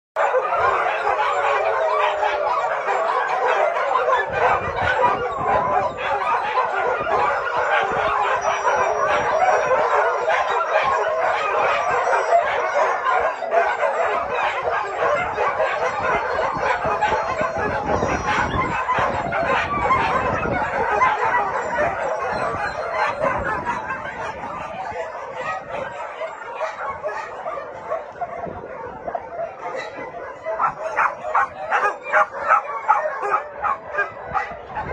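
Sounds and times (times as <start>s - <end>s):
dogs barking and howling: 0.2s - 34.9s.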